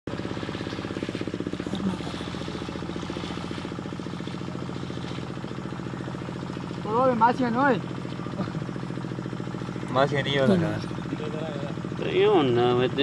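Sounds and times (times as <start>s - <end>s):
motorboat engine running: 0.1s - 13.0s.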